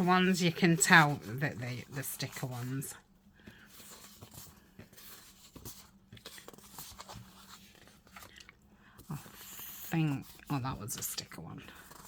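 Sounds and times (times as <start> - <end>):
paper sheets rustling: 0.0 - 12.0.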